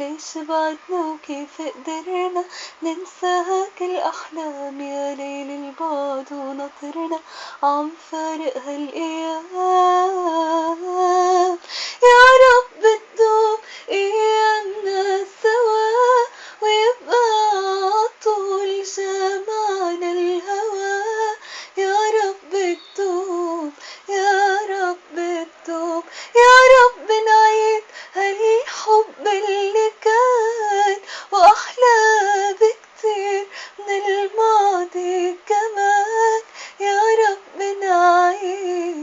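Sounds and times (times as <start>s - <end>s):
woman singing unaccompanied: 0.0s - 39.0s.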